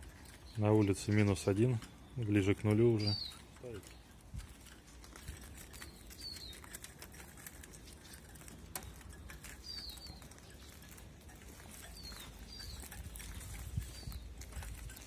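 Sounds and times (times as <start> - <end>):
high falling bird chirps: 0.0 - 4.2, 5.1 - 15.0
bird cage clicking and rattling: 0.0 - 15.0.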